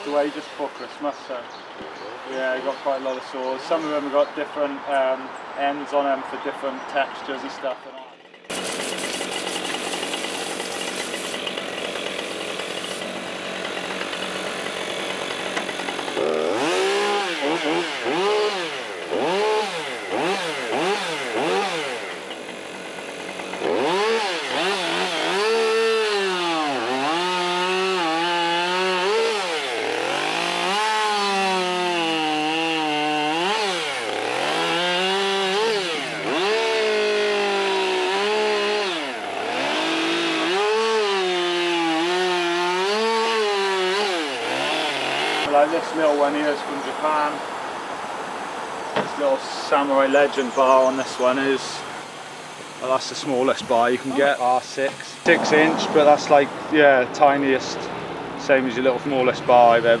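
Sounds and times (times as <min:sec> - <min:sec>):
chainsaw cutting log: 0:00.0 - 0:00.9, 0:07.4 - 0:47.4, 0:48.9 - 0:58.1.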